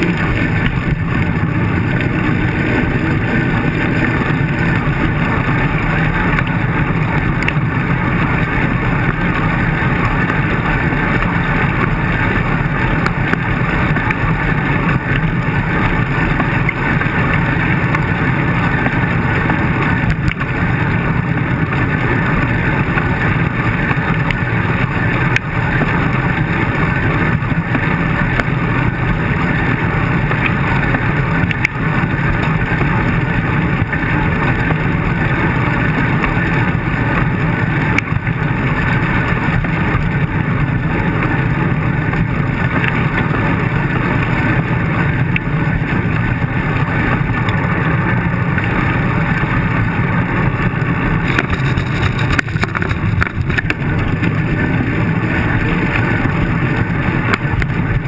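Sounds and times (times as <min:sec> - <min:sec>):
bicycle tyre noise: 0:00.0 - 0:58.0
wind rumble: 0:00.0 - 0:58.0.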